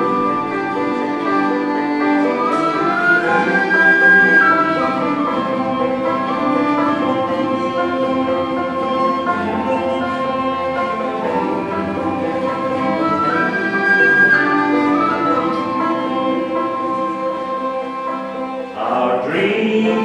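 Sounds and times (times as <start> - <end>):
tin whistle: 0.0 - 18.8
banjo: 0.0 - 20.0
fiddle: 0.0 - 20.0
mandolin: 0.0 - 20.0.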